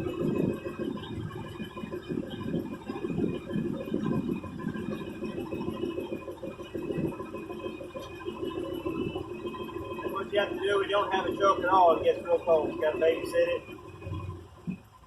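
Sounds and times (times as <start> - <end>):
vee eight engine running: 0.0 - 15.0.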